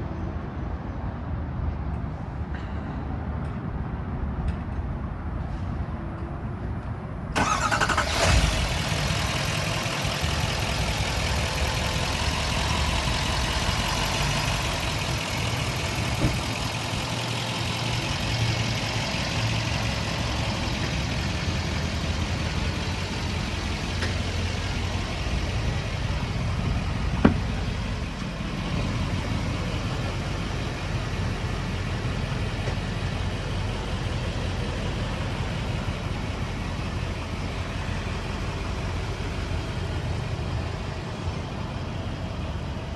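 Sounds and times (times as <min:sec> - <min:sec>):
engine idling: 0:07.4 - 0:42.9.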